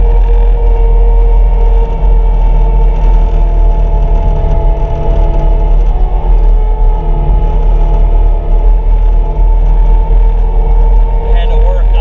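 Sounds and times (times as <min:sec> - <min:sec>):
diesel engine drone: 0:00.0 - 0:12.0
whining tones: 0:00.0 - 0:12.0.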